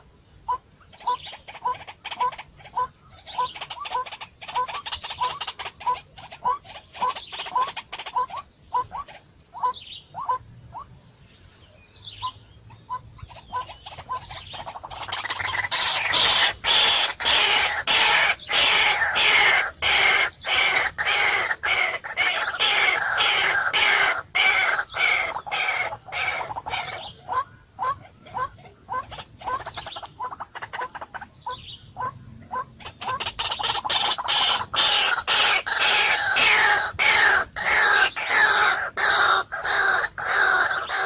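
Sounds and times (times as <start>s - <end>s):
bird chirping: 0.0s - 41.0s.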